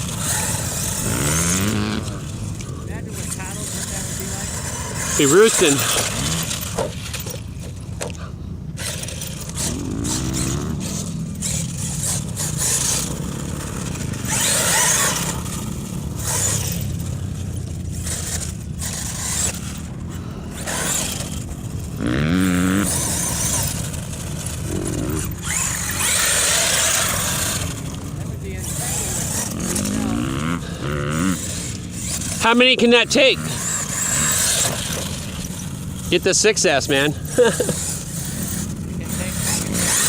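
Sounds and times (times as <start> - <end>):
electric motor whine: 0.0 - 8.2, 8.8 - 40.0
tyres spinning in dirt: 0.0 - 40.0.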